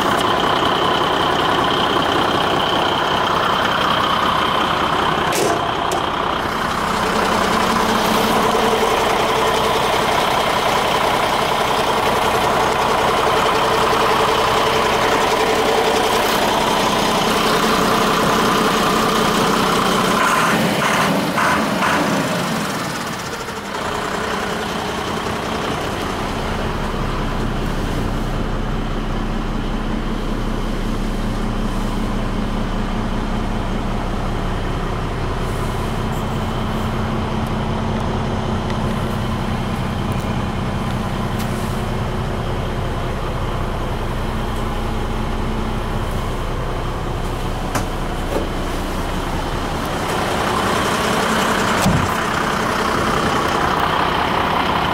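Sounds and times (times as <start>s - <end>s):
diesel truck engine idling: 0.0s - 54.9s.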